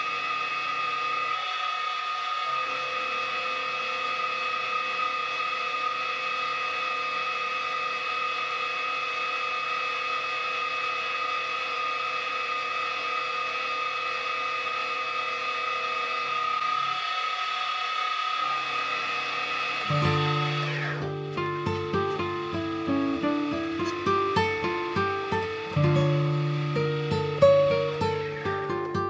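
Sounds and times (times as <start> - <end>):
milling machine cutting metal: 0.0 - 29.0.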